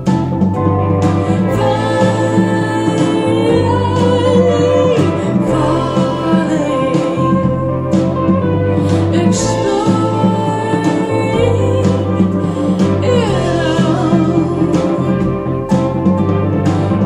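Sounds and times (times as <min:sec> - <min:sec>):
jazz-pop song over speakers: 0:00.0 - 0:17.0
woman singing: 0:01.0 - 0:16.3.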